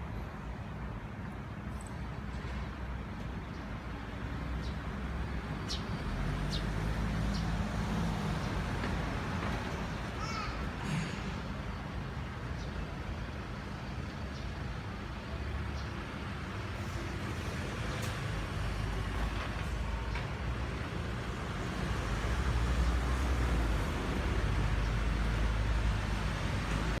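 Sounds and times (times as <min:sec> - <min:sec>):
distant road traffic rumble: 0:00.1 - 0:27.0.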